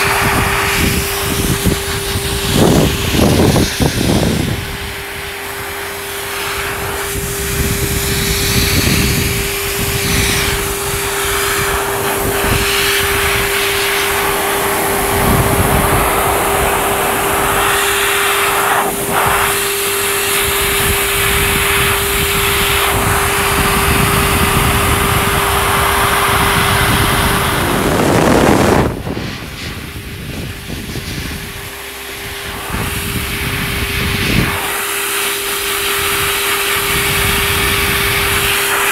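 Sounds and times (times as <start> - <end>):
blow dryer airflow rushing: 0.0 - 38.9
dryer motor whine: 0.0 - 38.9.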